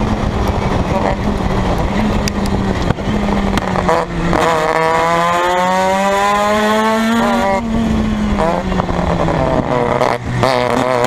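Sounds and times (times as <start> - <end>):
race car rotary engine accelerating: 0.0 - 11.0.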